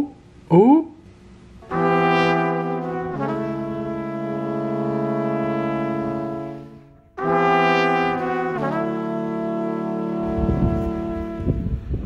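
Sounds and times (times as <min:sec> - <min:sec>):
brassy held chords music: 0:01.6 - 0:11.9.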